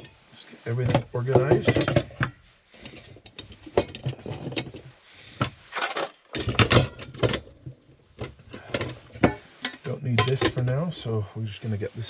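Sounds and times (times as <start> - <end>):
food containers clicking and rustling: 0.0 - 10.6.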